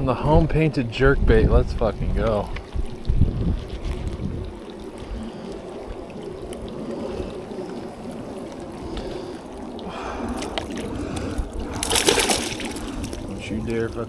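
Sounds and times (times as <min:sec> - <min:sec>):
wind on microphone: 0:00.0 - 0:14.0
rain: 0:00.5 - 0:14.0.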